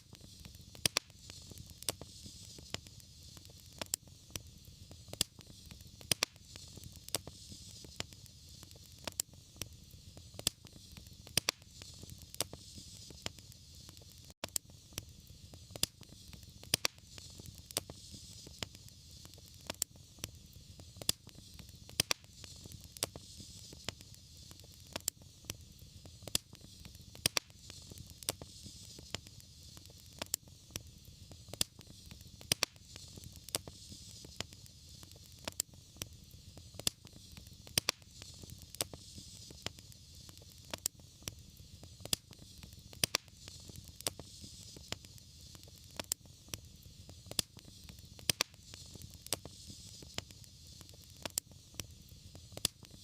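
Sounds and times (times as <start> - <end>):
fire crackling with sharp pops: 0.0 - 53.0
low rumble of fire: 0.0 - 53.0.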